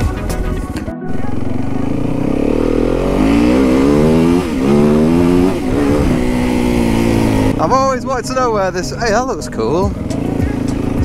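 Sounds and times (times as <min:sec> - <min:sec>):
dirt bike engine revving: 0:01.1 - 0:11.0.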